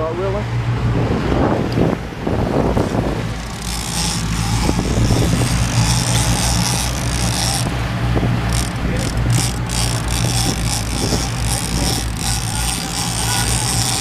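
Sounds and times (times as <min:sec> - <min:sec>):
boat engine running: 0:00.0 - 0:14.0
wind and water rushing: 0:00.0 - 0:14.0.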